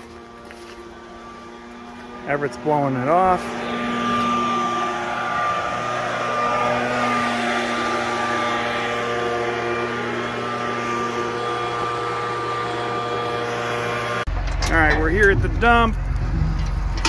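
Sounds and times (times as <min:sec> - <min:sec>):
leaf blower running: 0:00.0 - 0:17.0.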